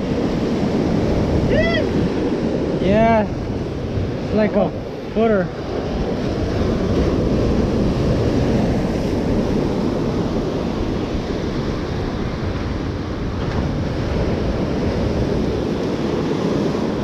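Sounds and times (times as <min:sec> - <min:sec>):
ocean surf breaking over rocks: 0:00.0 - 0:17.0
wind buffeting microphone: 0:00.0 - 0:17.0.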